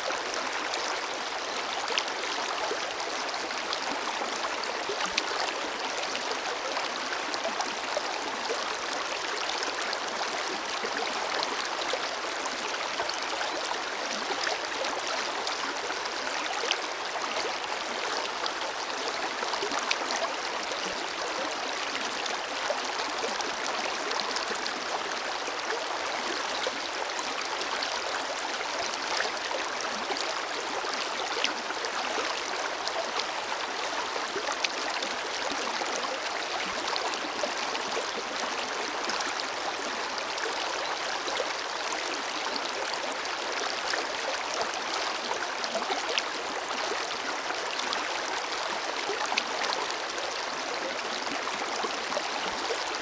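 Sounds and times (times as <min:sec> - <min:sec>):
river flowing over stones: 0:00.0 - 0:53.0.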